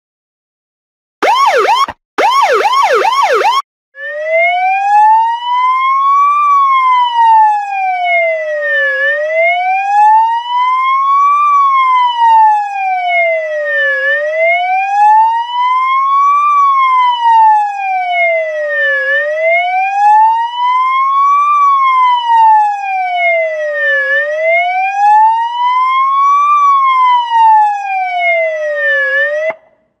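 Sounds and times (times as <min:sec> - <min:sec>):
police siren yelp and wail: 0:01.2 - 0:29.9.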